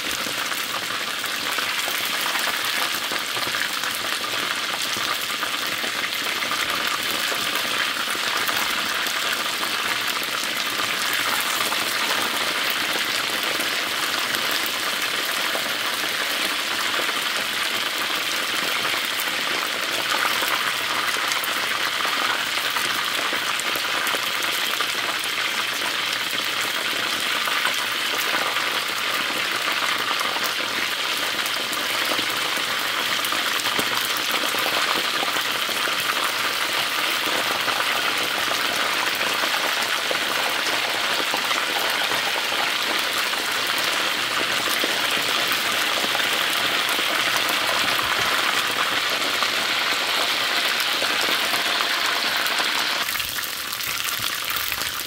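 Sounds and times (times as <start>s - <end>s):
chicken wings frying in oil: 0.0s - 55.0s.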